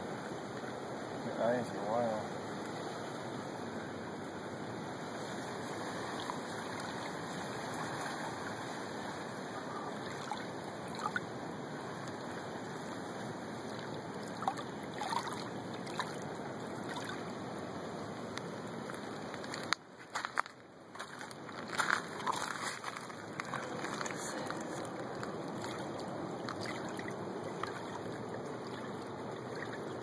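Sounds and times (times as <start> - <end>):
shallow water lapping: 0.4 - 30.0
small water splashes: 4.9 - 30.0.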